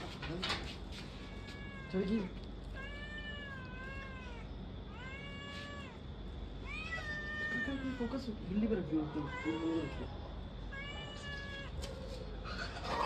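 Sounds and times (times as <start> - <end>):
cat yowling: 1.2 - 8.3, 9.1 - 13.0.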